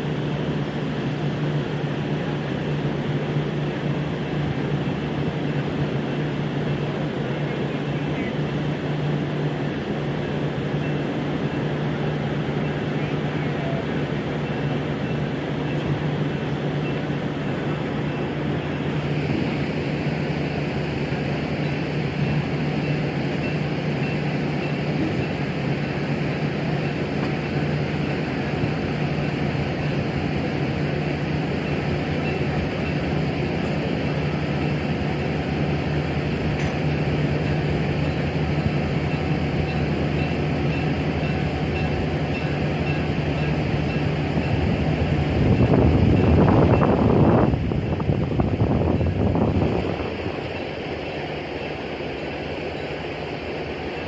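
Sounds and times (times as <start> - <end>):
constant low hum: 0.0 - 54.0
train car rumbling on track: 0.0 - 54.0.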